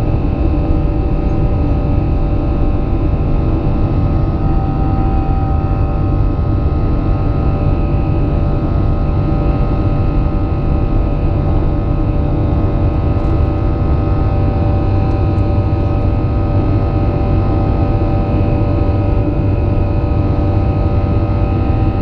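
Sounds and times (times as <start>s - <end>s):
airplane engines rumbling: 0.0s - 22.0s.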